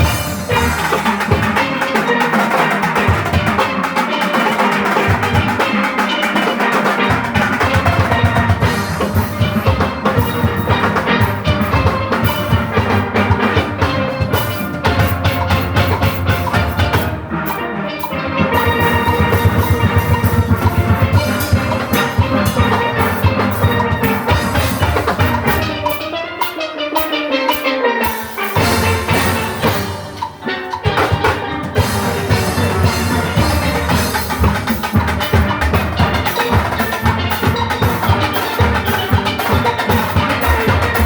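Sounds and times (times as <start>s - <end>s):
drum kit: 0.0s - 41.0s
percussion: 0.0s - 41.0s
steelpans playing rapid notes: 0.0s - 41.0s.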